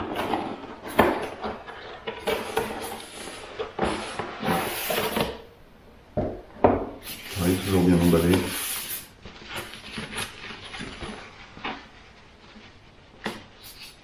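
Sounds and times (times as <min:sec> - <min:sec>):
cardboard rustling: 0:00.0 - 0:05.4, 0:07.3 - 0:13.9
cardboard scraping: 0:00.0 - 0:05.5, 0:07.2 - 0:14.0.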